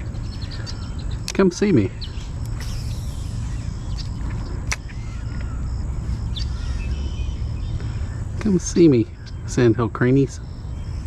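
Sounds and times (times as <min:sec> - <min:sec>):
faint bird chirps: 0:00.0 - 0:11.0
low outdoor rumble: 0:00.0 - 0:11.0.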